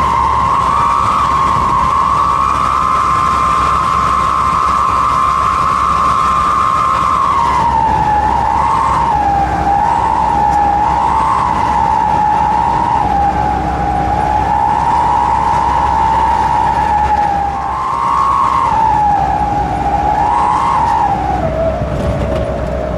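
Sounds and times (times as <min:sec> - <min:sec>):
engine rumble: 0:00.0 - 0:22.9
howling exhaust whistle: 0:00.0 - 0:22.9.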